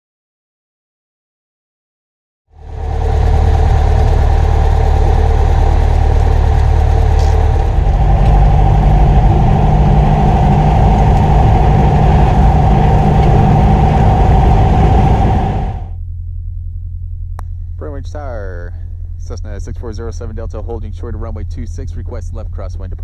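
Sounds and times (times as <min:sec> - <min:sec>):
piston aircraft engine running: 0:02.5 - 0:16.0, 0:17.3 - 0:23.0.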